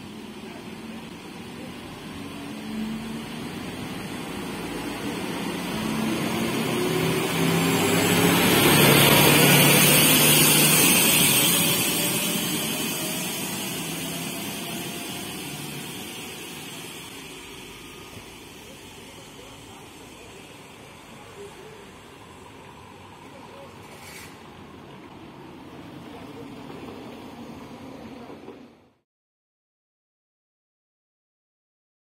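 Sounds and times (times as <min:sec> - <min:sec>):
diesel railcar engine accelerating: 0:00.0 - 0:29.0
whine of wheels and transmission: 0:00.0 - 0:29.0.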